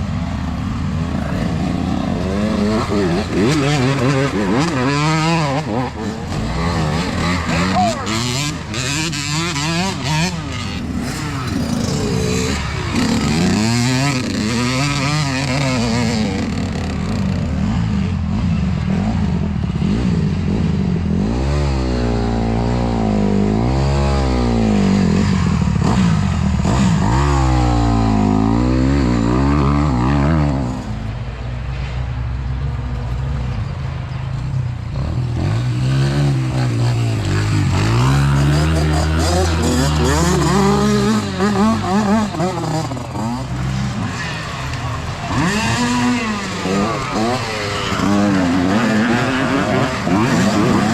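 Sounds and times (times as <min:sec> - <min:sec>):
dirt bike engines revving: 0:00.0 - 0:50.9.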